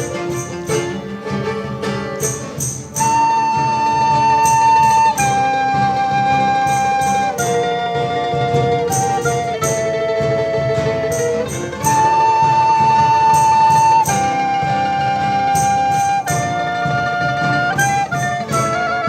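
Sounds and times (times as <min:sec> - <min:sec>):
band playing: 0:00.0 - 0:19.0
steady drum beat: 0:00.0 - 0:19.0.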